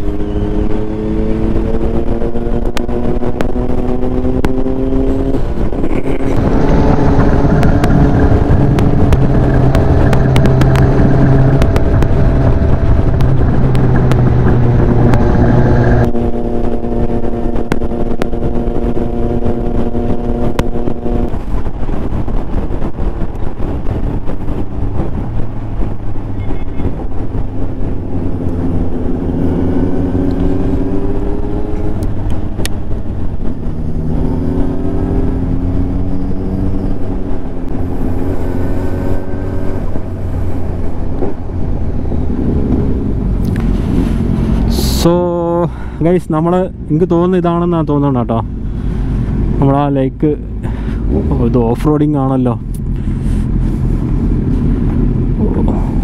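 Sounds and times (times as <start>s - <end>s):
motorcycle engine running: 0.0s - 45.7s.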